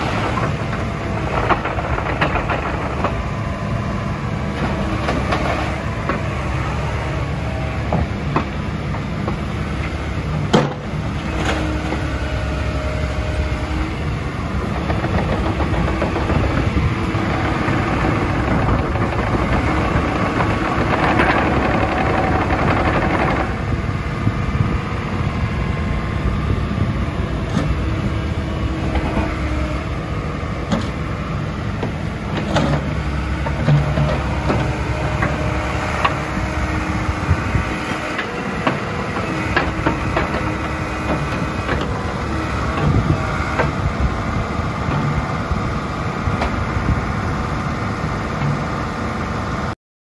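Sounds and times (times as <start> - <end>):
excavator diesel engine running: 0.0 - 49.8.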